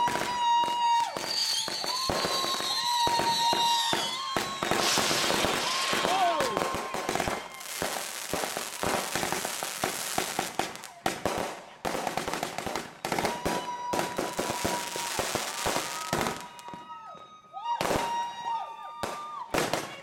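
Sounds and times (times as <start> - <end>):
fireworks whistling: 0.0 - 11.0, 12.2 - 18.5
fireworks crackling and banging: 0.0 - 20.0.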